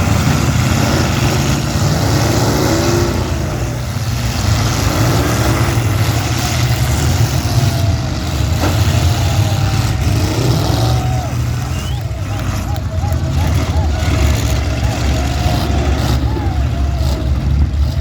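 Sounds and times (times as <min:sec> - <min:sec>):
car engines revving loudly: 0:00.0 - 0:18.0.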